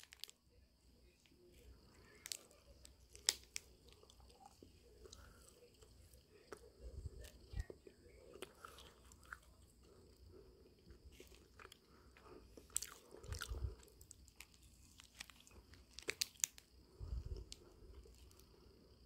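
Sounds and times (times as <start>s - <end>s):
cookie crunching: 0.0s - 19.0s
quiet chewing: 1.1s - 19.0s.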